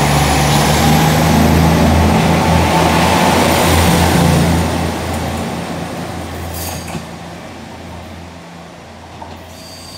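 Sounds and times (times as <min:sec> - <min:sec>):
diesel train passing: 0:00.0 - 0:09.9.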